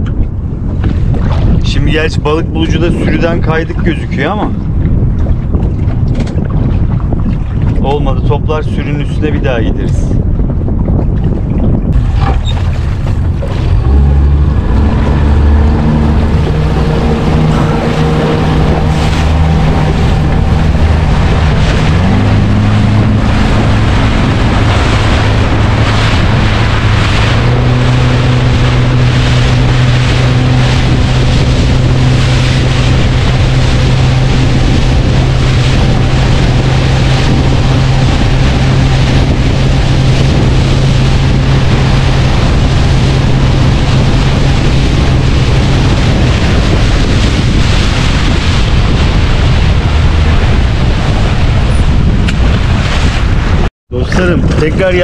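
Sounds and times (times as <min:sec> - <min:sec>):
boat engine running: 0:00.0 - 0:55.0
rushing water: 0:00.0 - 0:55.0
wind on microphone: 0:00.0 - 0:55.0.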